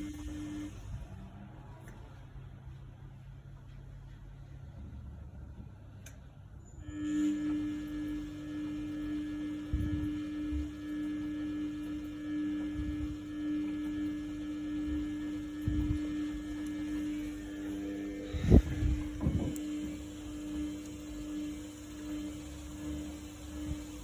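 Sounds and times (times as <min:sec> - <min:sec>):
washing machine electric hum: 0:00.0 - 0:24.0.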